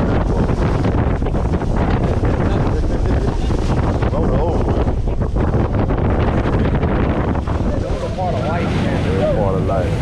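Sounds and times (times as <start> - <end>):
low rumble of boat and water: 0.0 - 10.0
wind buffeting microphone: 0.0 - 10.0.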